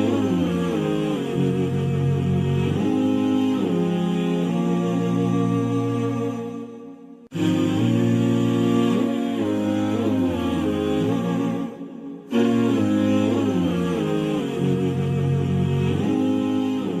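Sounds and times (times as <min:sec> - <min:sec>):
low vocal drone: 0:00.0 - 0:06.7, 0:07.3 - 0:17.0
hummed vocal melody: 0:00.0 - 0:17.0.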